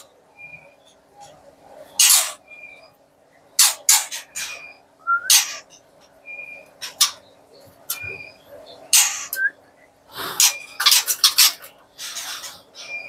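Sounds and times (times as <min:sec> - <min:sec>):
harsh rasping bird calls: 0:00.0 - 0:13.0.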